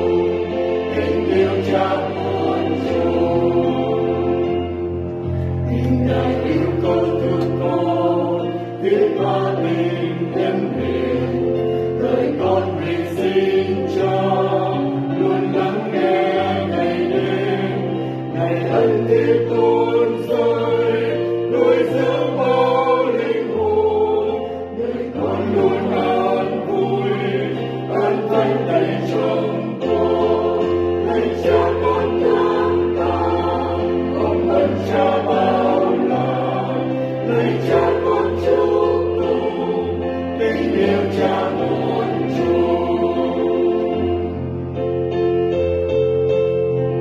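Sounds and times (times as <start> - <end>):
choir singing in harmony: 0.0 - 47.0.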